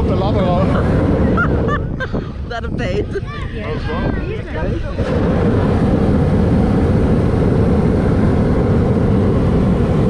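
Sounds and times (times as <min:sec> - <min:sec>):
propane burner roaring: 0:00.0 - 0:10.0.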